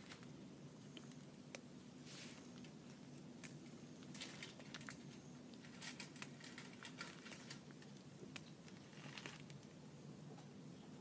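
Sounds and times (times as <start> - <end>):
faint rustling of plants: 0.0 - 11.0.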